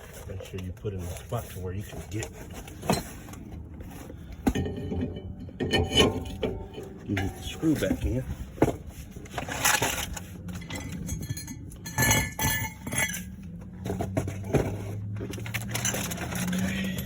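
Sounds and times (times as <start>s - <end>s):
low steady hum: 0.0s - 17.0s
metal tools clinking and knocking: 1.8s - 17.0s.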